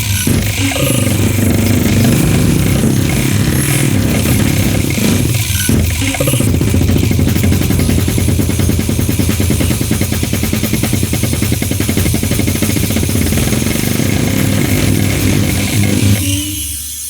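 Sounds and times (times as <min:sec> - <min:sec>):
dense buzzing midi music: 0:00.0 - 0:16.6.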